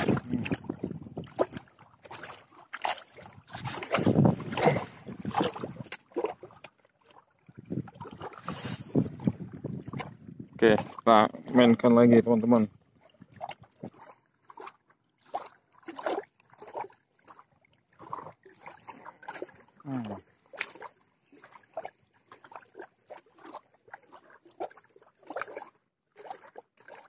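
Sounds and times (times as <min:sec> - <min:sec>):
water lapping at shore: 0:00.0 - 0:27.0.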